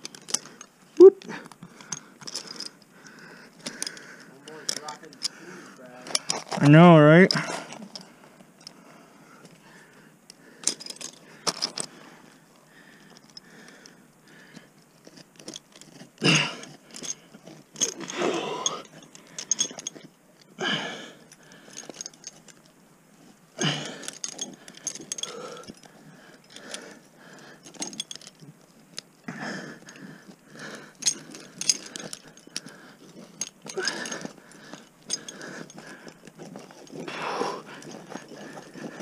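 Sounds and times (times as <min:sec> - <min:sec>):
metal climbing gear jangling: 0:00.0 - 0:39.0.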